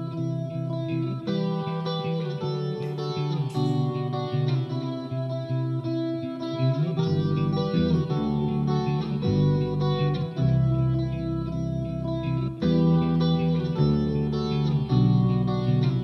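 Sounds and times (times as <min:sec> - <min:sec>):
looped electric guitar with effects: 0:00.0 - 0:16.0.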